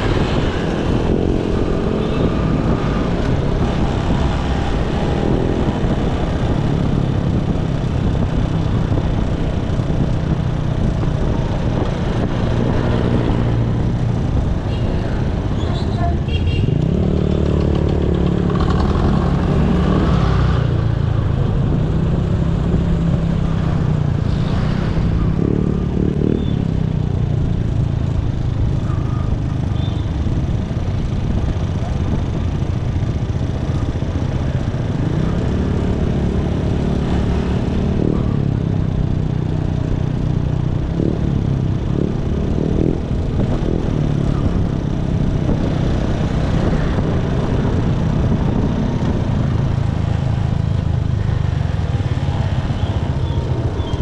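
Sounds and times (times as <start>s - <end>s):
motorcycle engine accelerating: 0.0s - 54.0s
wind and road noise: 0.0s - 54.0s.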